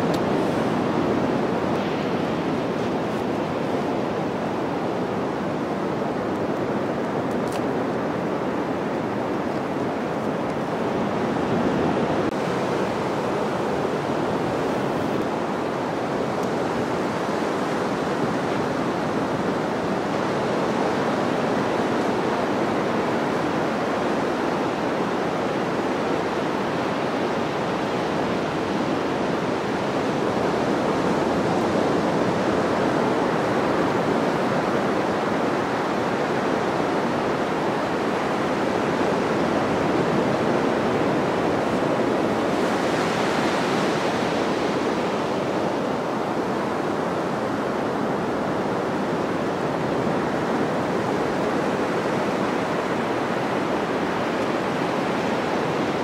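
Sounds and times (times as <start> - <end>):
surf breaking on a beach: 0.0 - 56.0.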